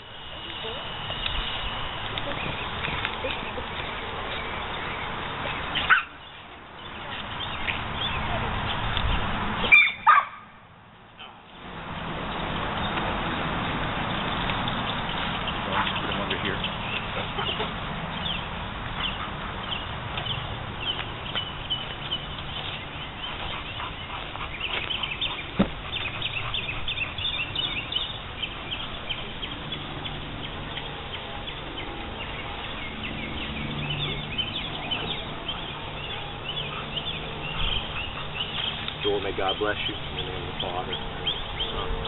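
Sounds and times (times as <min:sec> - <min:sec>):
birds chirping and calling: 0:00.1 - 0:10.2, 0:12.2 - 0:42.0.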